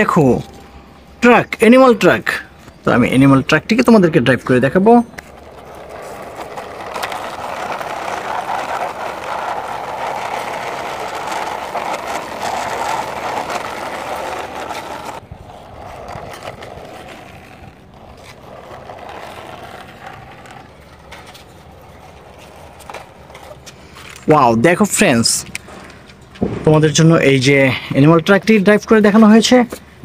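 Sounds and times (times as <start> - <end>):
toy truck wheels rolling on concrete: 1.2 - 26.4.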